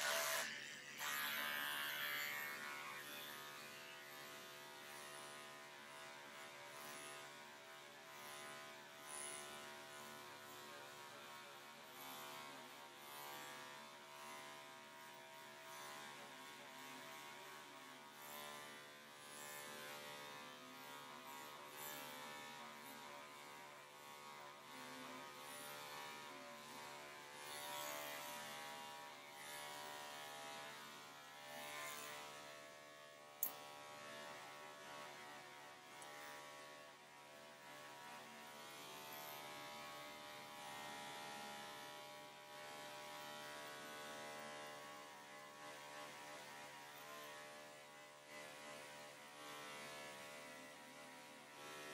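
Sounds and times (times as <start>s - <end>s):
electric clippers buzzing: 0.0s - 11.4s, 12.0s - 14.7s, 15.7s - 51.9s.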